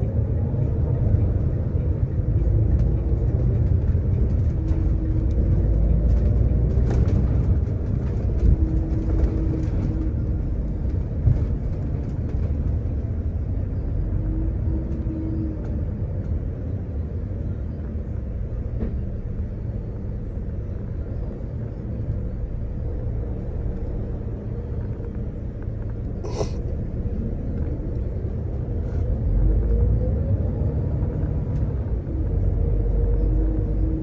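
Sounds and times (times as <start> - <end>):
vehicle rumble from inside: 0.0 - 34.0.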